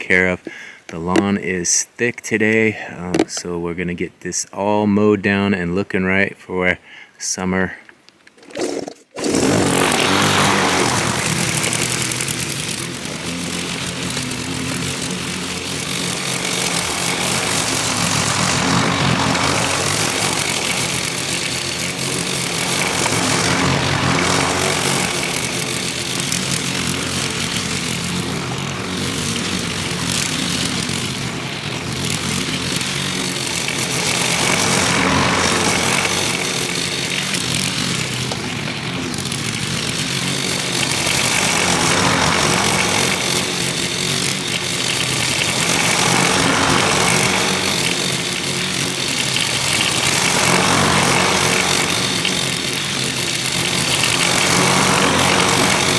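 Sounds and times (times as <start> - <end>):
lawn mower engine cutting grass: 0.0 - 6.8, 7.5 - 55.9.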